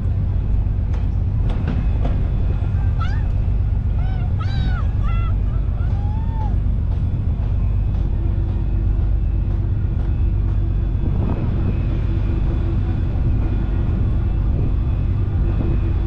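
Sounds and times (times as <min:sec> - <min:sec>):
boat engine droning: 0:00.0 - 0:16.0
steady hum: 0:00.0 - 0:16.0.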